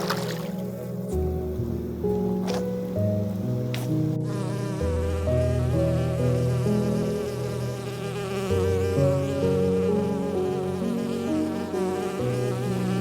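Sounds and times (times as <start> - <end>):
buzzy sustained chords music: 0.0 - 13.0.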